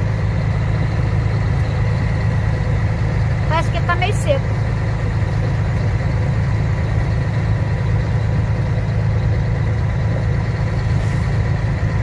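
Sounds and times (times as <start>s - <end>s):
truck engine and tyre drone: 0.0s - 12.0s.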